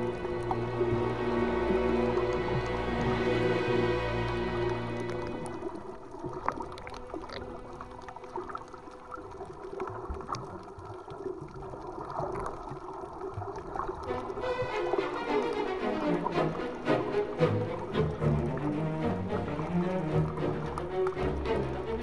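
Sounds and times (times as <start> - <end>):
muffled water sloshing: 0.0 - 22.0.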